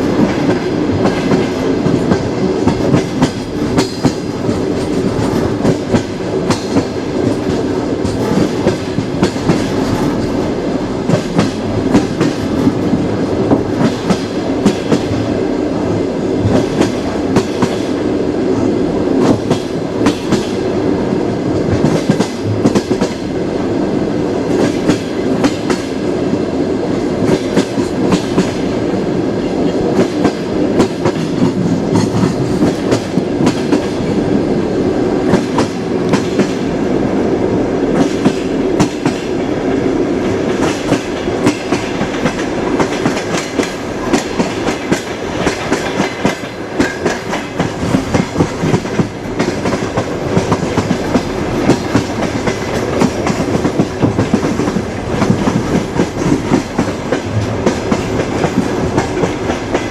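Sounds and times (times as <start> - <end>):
clickety-clack over rail joints: 0.0 - 59.9
train wheels rumbling: 0.0 - 59.9.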